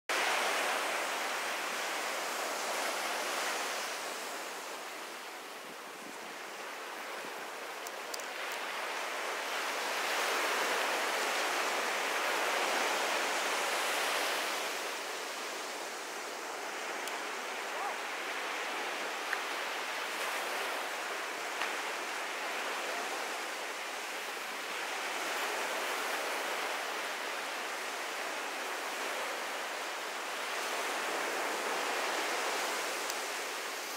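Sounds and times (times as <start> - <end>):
ocean surf breaking: 0.1 - 33.9.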